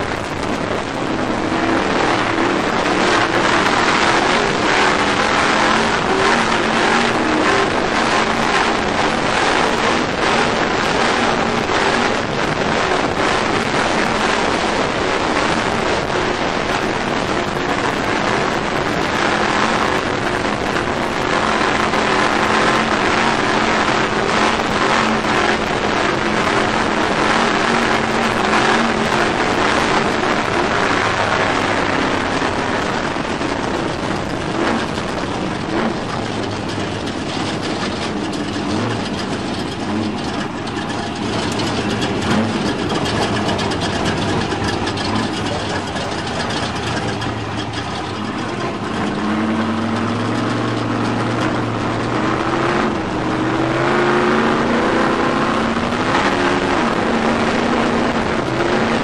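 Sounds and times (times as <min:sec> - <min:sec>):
truck engine: 0:00.0 - 0:59.0
wind and road noise: 0:00.0 - 0:59.0.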